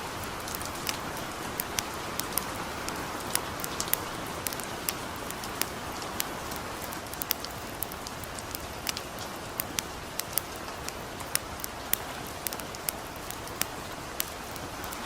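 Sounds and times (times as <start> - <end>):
campfire crackling: 0.0 - 15.0
light rain falling: 0.0 - 15.0.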